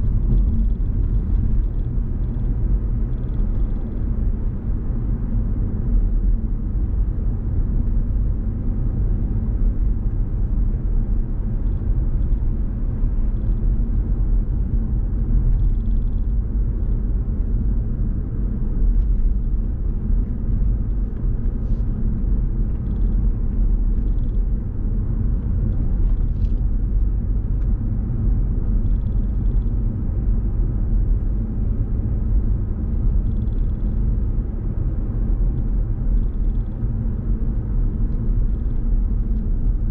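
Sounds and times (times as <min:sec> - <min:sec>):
car driving road noise: 0:00.0 - 0:39.9.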